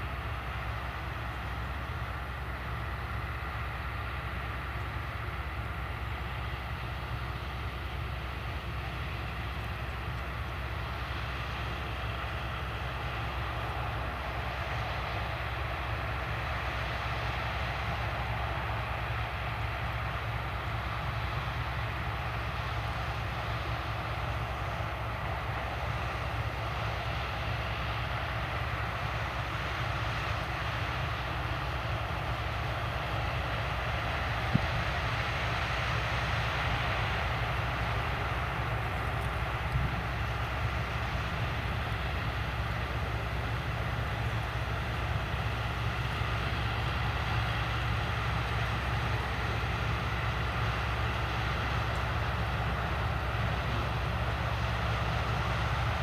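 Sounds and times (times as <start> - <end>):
diesel farm machinery droning: 0.0 - 56.0.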